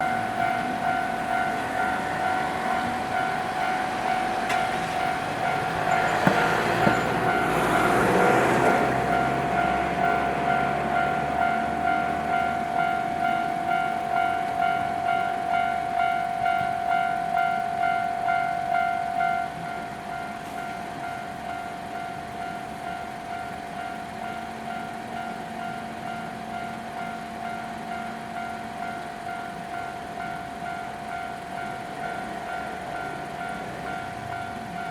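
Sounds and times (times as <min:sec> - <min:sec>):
level crossing warning bell: 0:00.0 - 0:34.9
train passing: 0:00.0 - 0:34.9.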